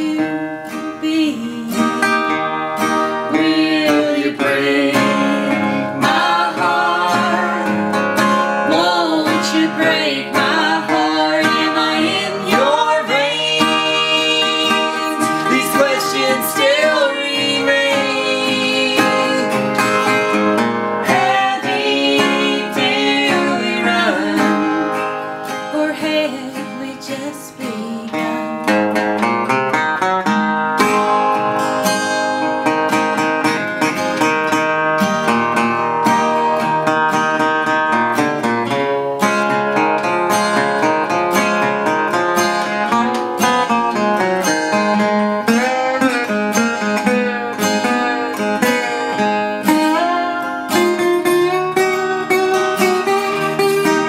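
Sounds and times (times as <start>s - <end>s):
acoustic guitar: 0.0s - 54.0s
resonator guitar with gliding notes: 0.0s - 54.0s.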